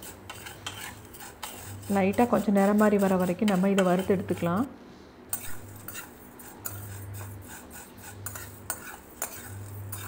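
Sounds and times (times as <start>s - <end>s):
spatula scraping noodles in pan: 0.0s - 4.6s, 5.3s - 10.0s.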